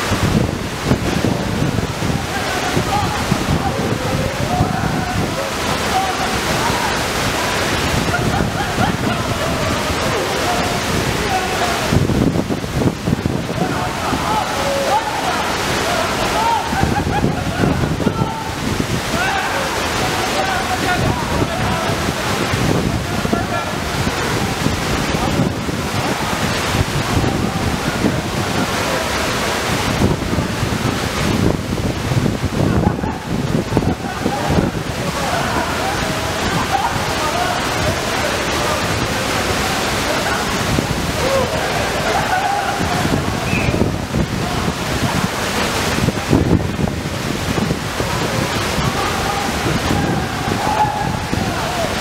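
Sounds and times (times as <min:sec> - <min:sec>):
faint voices: 0:00.0 - 0:52.0
waterfall rushing: 0:00.0 - 0:52.0
wind buffeting microphone: 0:00.0 - 0:52.0.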